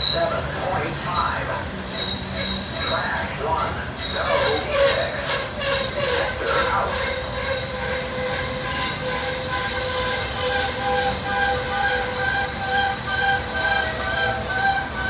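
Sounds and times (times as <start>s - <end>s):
train cars rumbling on rails: 0.0s - 15.0s
wheels squealing: 0.0s - 15.0s.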